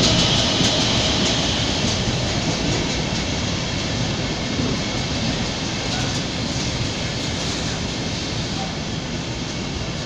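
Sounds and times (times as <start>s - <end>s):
train clatter: 0.0s - 10.0s
train wheels rumbling on track: 0.0s - 10.0s.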